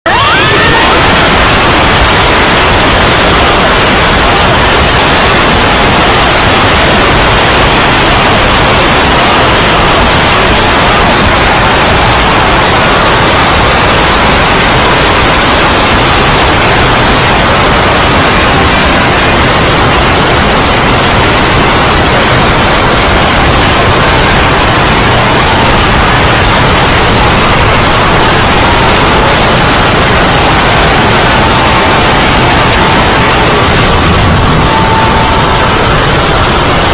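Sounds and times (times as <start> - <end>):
loud static-like noise: 0.0 - 36.9.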